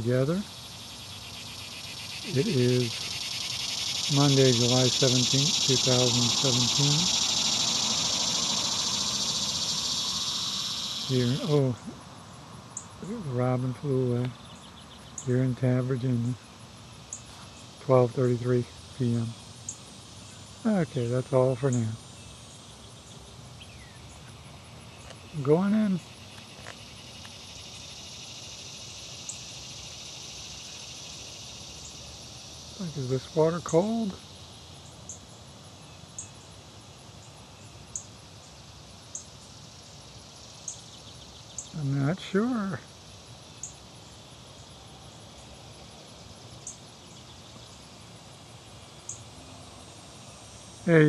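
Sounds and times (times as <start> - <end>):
insects buzzing drone: 0.0 - 51.0
outdoor background noise: 0.0 - 51.0.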